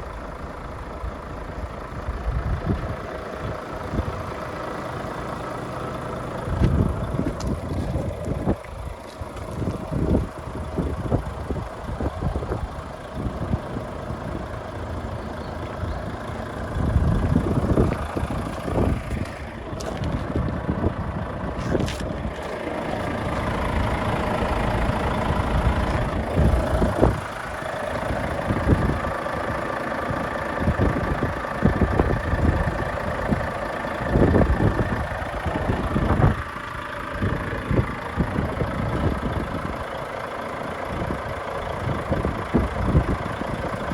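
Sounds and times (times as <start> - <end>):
diesel truck engine idling: 0.0 - 43.9
low rumbles: 0.0 - 43.9.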